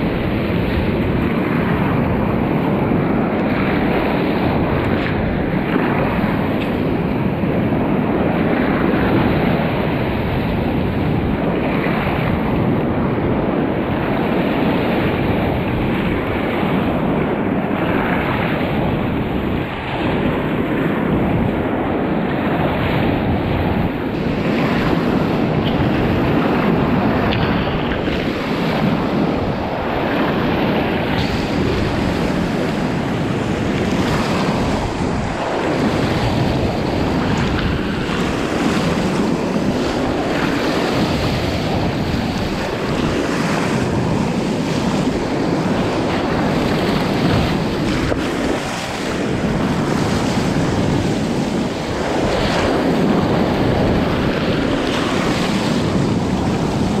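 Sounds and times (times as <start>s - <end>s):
whitewater rushing and splashing: 0.0s - 57.0s
wind buffeting microphone: 0.0s - 57.0s.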